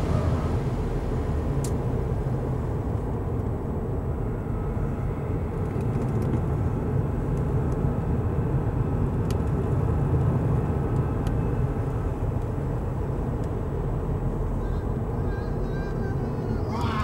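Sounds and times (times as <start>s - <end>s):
car engine rumble: 0.0s - 17.0s
road noise inside car: 0.0s - 17.0s.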